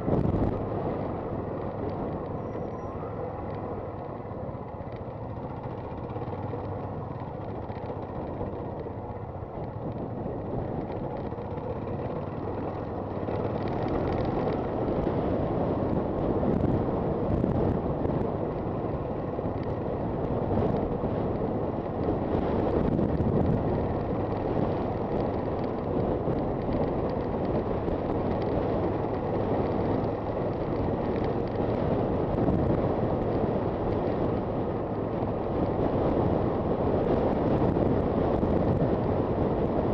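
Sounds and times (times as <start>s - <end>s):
wind noise on microphone: 0.0s - 3.7s, 9.5s - 39.9s
motorcycle engine running: 0.0s - 39.9s.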